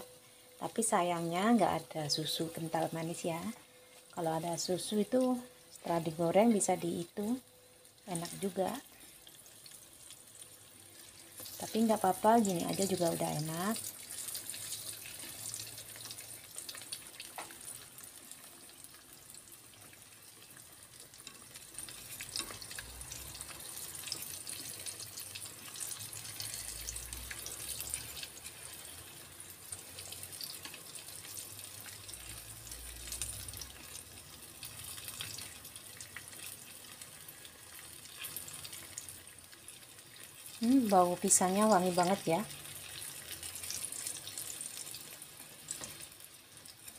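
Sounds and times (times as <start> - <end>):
food sizzling in oil: 0.0 - 46.9.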